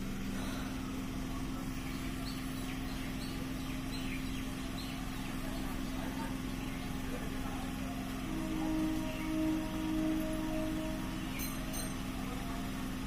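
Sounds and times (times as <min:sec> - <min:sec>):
birds chirping: 0:00.0 - 0:12.8
electric train humming: 0:00.0 - 0:13.0.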